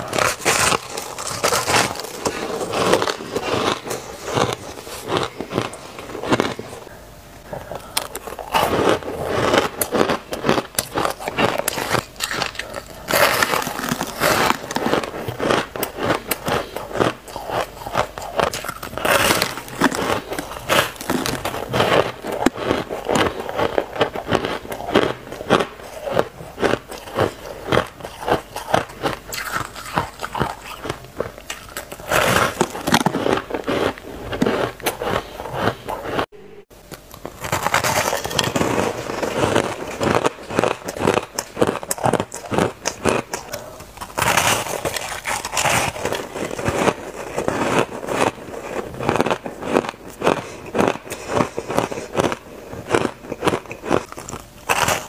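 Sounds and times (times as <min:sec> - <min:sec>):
person crunching ice: 0:00.0 - 0:07.0, 0:07.6 - 0:36.4, 0:37.0 - 0:55.0.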